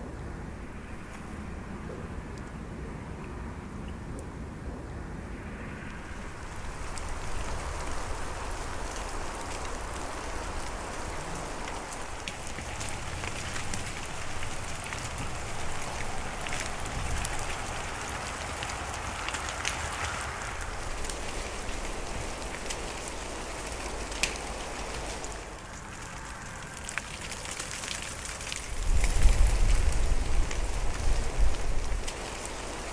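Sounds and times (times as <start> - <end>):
sharp ticks of raindrops: 5.7 - 32.9
rain hissing: 5.9 - 32.9.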